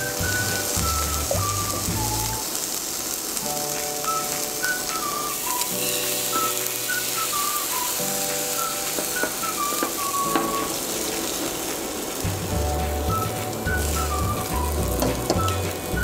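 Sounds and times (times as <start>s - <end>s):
light background music: 0.0s - 2.5s, 3.4s - 16.0s
batter sizzling in frying pan: 0.0s - 16.0s.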